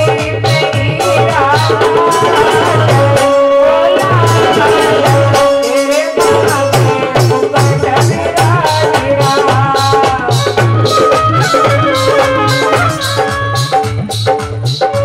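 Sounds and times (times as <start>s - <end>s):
woman singing: 0.0s - 13.8s
drum beat: 0.0s - 15.0s
shaken and struck percussion: 0.0s - 15.0s.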